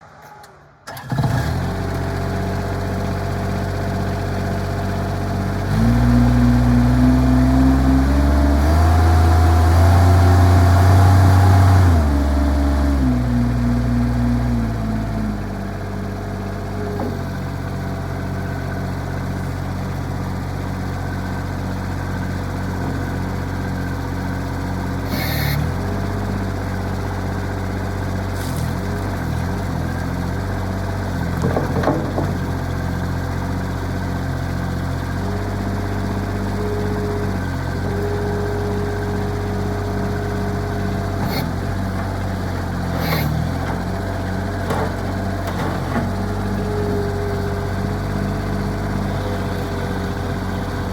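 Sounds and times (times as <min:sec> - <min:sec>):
diesel engine running: 0:00.7 - 0:50.9.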